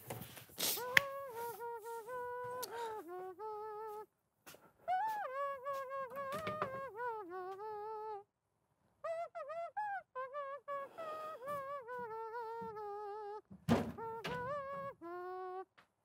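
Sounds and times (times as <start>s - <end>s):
man humming: 0.6s - 4.1s, 4.9s - 8.2s, 9.1s - 13.4s, 14.0s - 15.7s.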